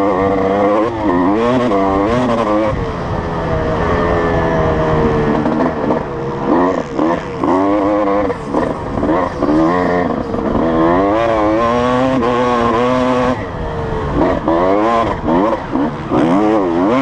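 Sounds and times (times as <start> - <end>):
motocross engine revving: 0.0 - 17.0.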